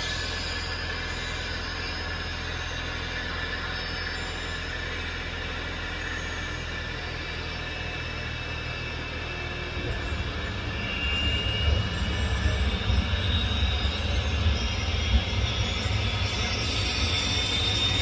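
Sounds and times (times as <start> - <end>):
engines heavy rumble: 0.0 - 18.0
thin turbine whine: 0.0 - 18.0.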